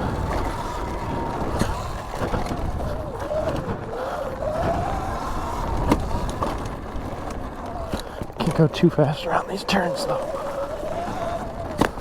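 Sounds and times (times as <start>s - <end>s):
wind and tyres on dirt rumble: 0.0s - 12.0s.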